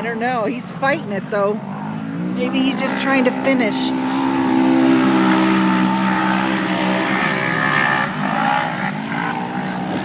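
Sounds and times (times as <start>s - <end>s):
race vehicle engine revving: 0.7s - 10.0s.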